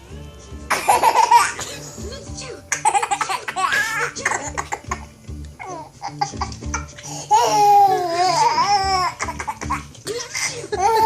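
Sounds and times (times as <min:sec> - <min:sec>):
cartoon music from tv: 0:00.0 - 0:11.0.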